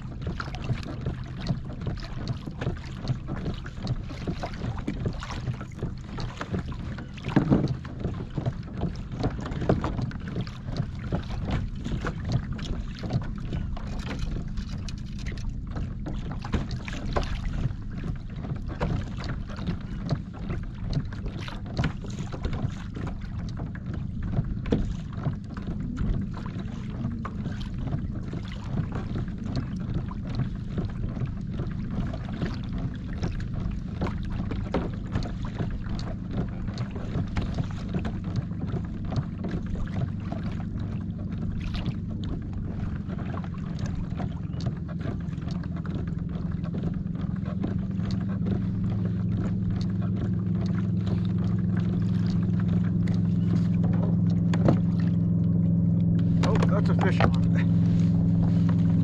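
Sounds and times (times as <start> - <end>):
boat motor hum: 0.0 - 59.0
water slapping against hull: 0.0 - 59.0.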